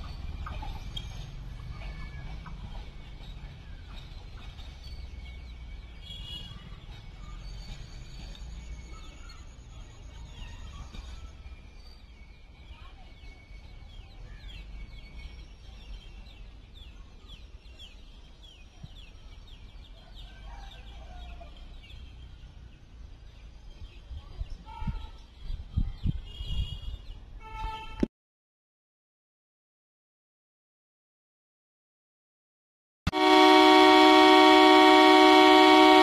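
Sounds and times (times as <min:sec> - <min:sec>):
train rumbling: 0:00.0 - 0:28.0, 0:33.1 - 0:36.0.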